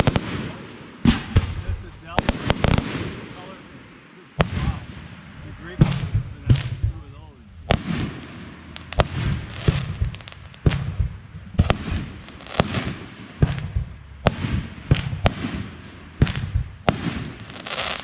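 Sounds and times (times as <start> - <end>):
fireworks bangs with crackle: 0.0 - 18.0.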